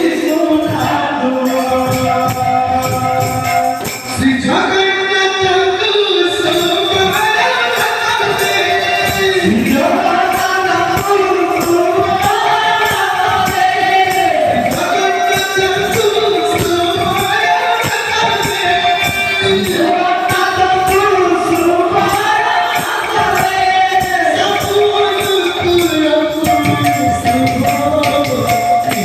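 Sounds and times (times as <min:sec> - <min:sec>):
jingling metal percussion: 0:00.0 - 0:29.0
man singing devotional song: 0:00.0 - 0:29.0.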